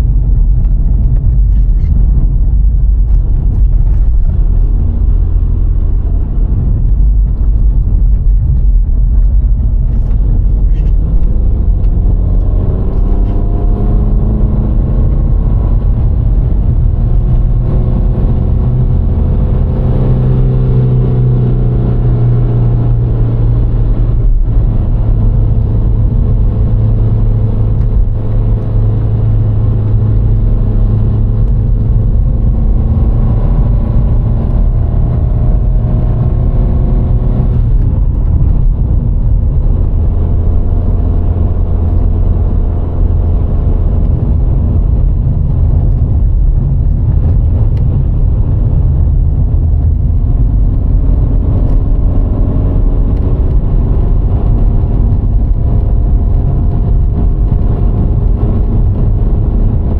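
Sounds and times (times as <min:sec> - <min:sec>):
car engine: 0:00.0 - 0:59.9
road and tyre noise: 0:00.0 - 0:59.9.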